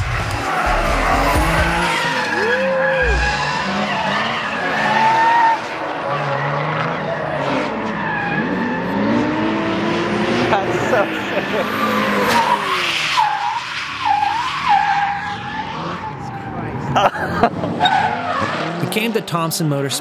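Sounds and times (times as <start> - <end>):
car engines revving: 0.0 - 20.0
tires squealing: 0.0 - 20.0.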